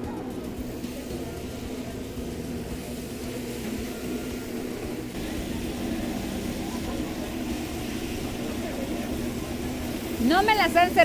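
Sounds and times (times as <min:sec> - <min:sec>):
machine hum with low rumble: 0:00.0 - 0:11.0.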